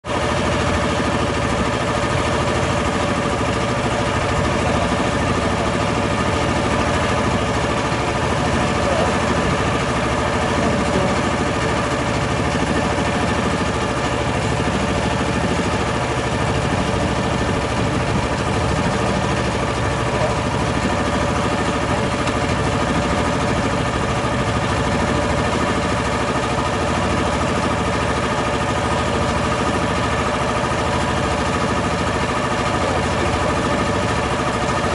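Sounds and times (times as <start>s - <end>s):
boat motor running: 0.0s - 34.9s.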